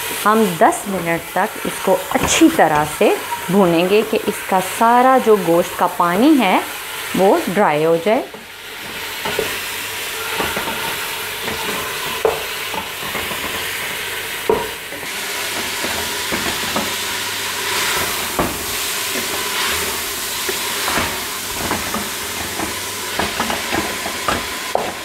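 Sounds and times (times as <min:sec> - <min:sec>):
meat sizzling in a pot: 0:00.0 - 0:25.0.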